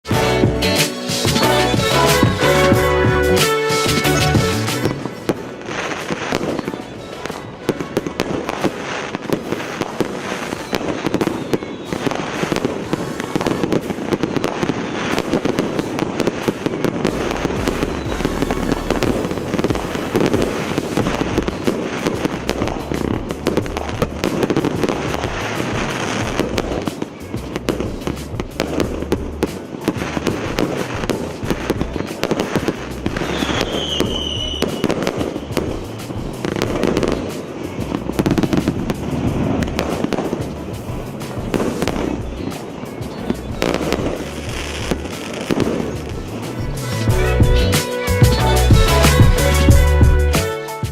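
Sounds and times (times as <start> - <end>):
fireworks firing and crackling: 0.0 - 50.9
music playing: 0.0 - 50.9.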